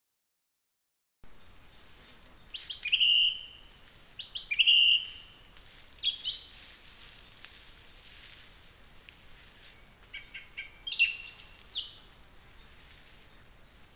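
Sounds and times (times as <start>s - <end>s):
songbird singing: 1.2s - 13.9s.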